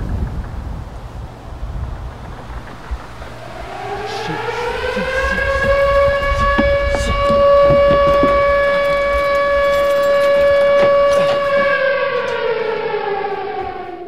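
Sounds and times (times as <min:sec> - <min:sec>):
tornado siren wailing: 0:00.0 - 0:14.0.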